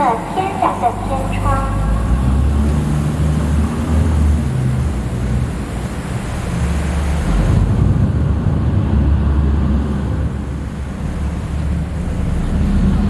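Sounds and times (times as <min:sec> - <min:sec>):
boat diesel engine rumble: 0:00.0 - 0:13.0
wind and water noise: 0:00.0 - 0:13.0.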